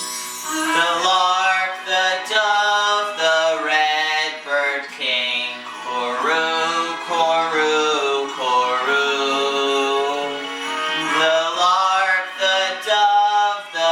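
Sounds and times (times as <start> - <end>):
instrumental backing music: 0.0 - 13.9
man singing a slow carol: 0.5 - 13.9.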